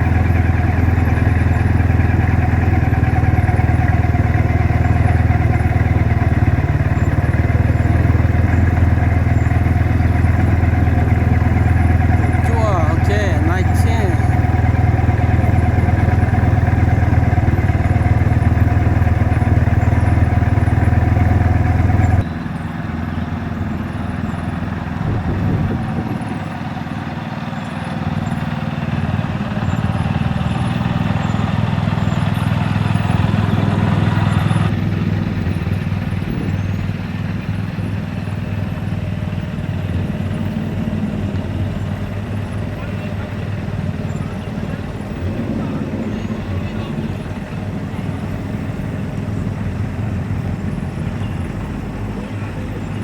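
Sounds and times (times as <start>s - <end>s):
car engines idling: 0.0s - 53.0s.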